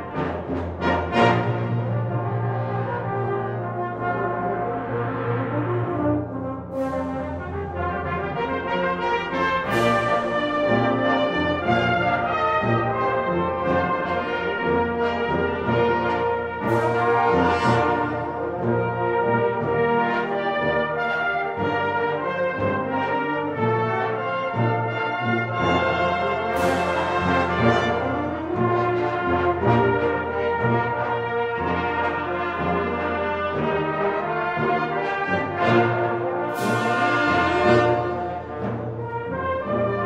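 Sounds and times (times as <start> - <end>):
brass band playing chords: 0.0 - 40.0.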